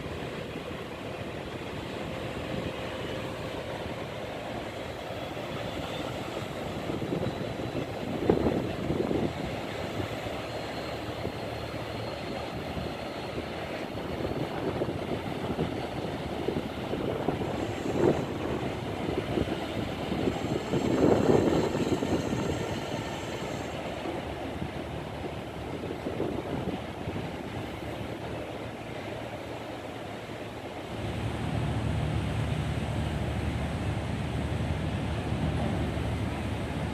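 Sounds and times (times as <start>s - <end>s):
boat engines rumbling: 0.0s - 36.9s.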